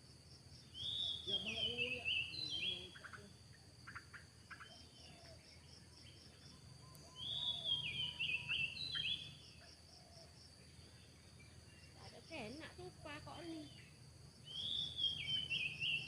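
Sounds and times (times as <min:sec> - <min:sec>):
bird chirping: 0:00.6 - 0:16.0.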